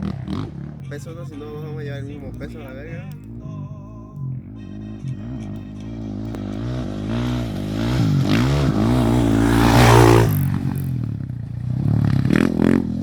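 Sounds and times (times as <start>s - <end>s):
motorcycle engine revving past: 0.0s - 13.0s
second motorcycle engine: 0.0s - 13.0s.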